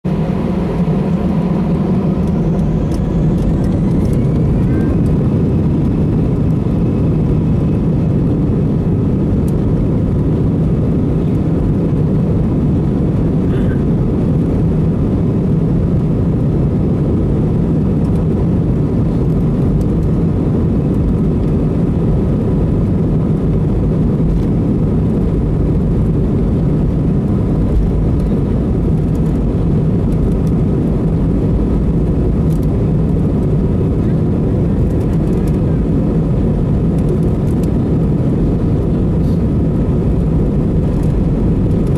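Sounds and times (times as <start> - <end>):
jet engines rumbling: 0.0 - 41.9
rising engine whine: 0.0 - 41.9.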